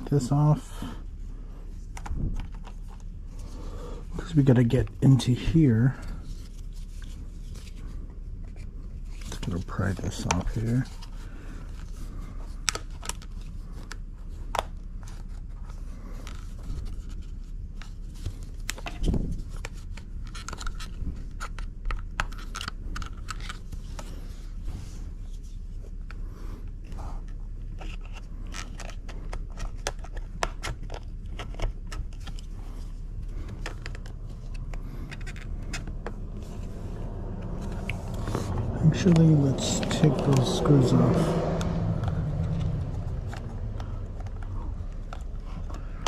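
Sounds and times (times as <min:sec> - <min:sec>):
steady low hum: 0:00.0 - 0:46.0
plastic parts clicking and scraping: 0:01.8 - 0:46.0.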